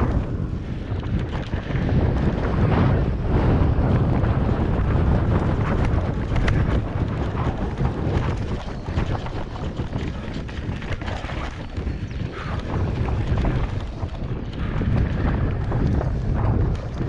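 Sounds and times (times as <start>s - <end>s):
bike rattling and knocking: 0.0s - 17.0s
wind buffeting microphone: 0.0s - 17.0s.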